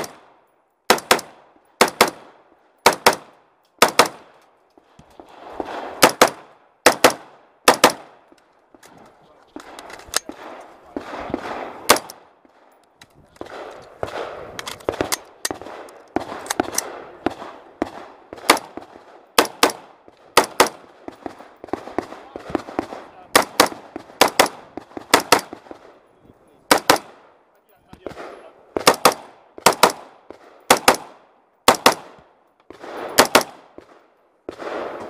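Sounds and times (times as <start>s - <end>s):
rifle gunshots: 0.9s - 4.3s, 5.2s - 8.2s, 9.6s - 12.3s, 13.4s - 26.0s, 26.7s - 27.3s, 28.0s - 35.0s.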